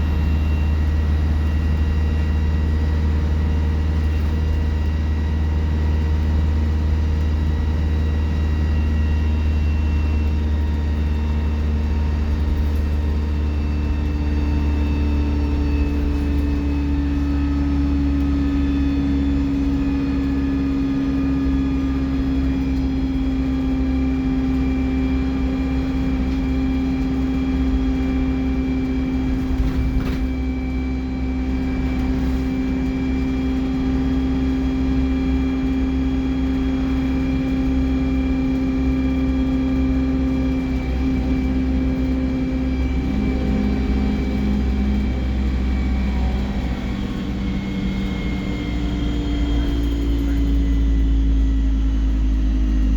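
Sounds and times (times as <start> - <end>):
bus diesel engine drone: 0.0 - 52.9.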